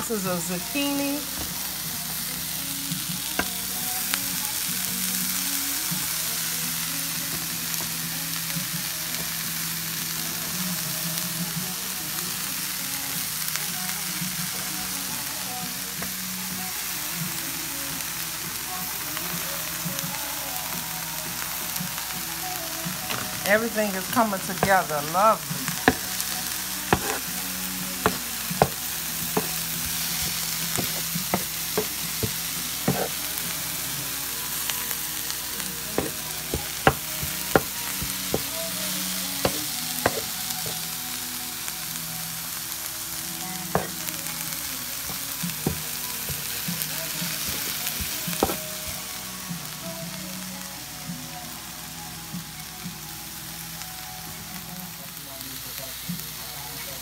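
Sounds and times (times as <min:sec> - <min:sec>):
vegetables frying hiss: 0:00.0 - 0:57.0.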